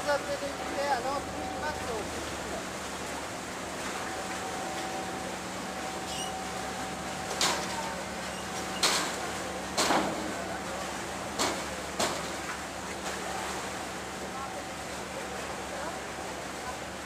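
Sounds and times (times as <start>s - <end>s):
lake water rushing: 0.0s - 17.0s.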